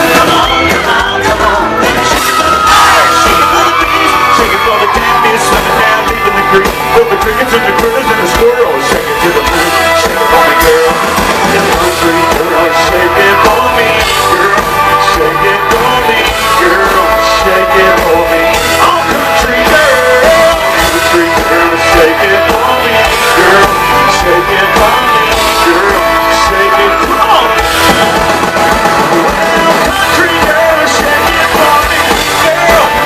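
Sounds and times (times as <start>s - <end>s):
live country-rock band playing: 0.0s - 33.0s.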